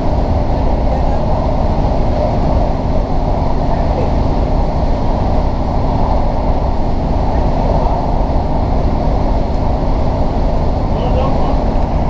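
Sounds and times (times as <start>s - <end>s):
diesel train engine rumble: 0.0s - 12.0s.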